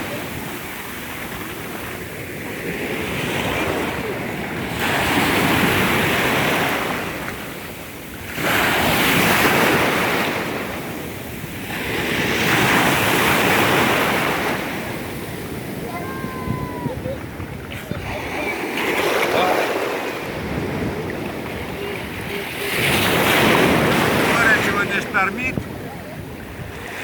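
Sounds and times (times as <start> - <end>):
storm waves crashing on pebble beach: 0.0 - 27.0
wind buffeting microphone: 0.0 - 27.0.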